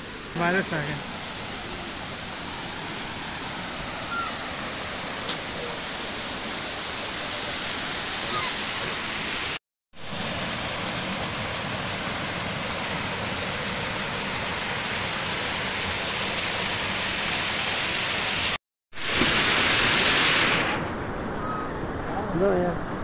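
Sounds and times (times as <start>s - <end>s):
waterfall rushing over boulders: 0.0s - 20.9s.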